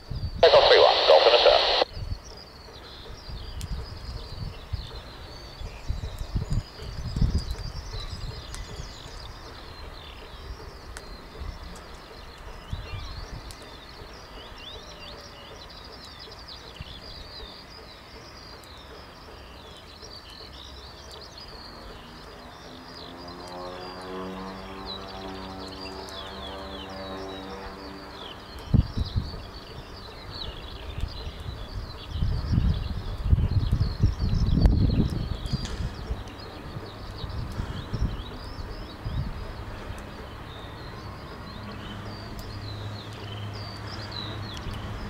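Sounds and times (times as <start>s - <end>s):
small birds chirping and singing: 1.4s - 45.0s.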